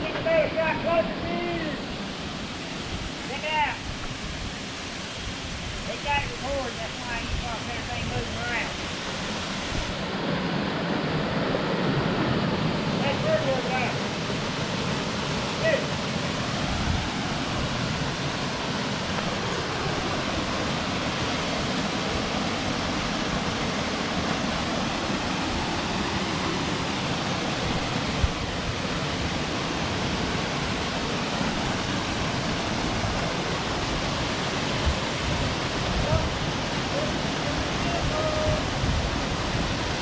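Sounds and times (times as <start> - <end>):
waterfall roaring: 0.0 - 40.0.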